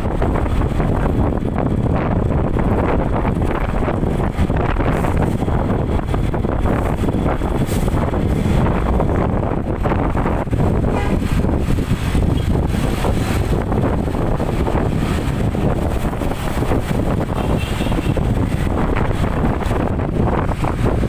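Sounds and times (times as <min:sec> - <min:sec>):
vehicle and road noise: 0:00.0 - 0:21.0
wind buffeting microphone: 0:00.0 - 0:21.0.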